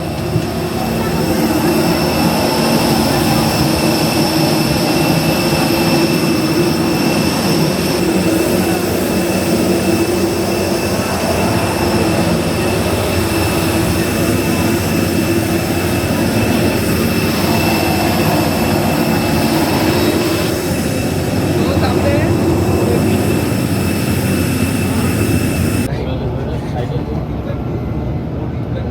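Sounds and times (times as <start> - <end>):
jet engines rushing and whining: 0.0 - 28.9.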